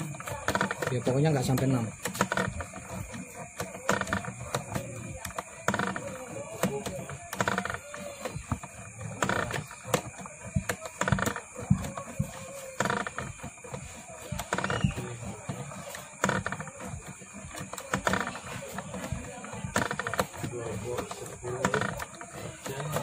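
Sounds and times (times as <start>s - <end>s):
coil winding machine running: 0.0s - 23.0s.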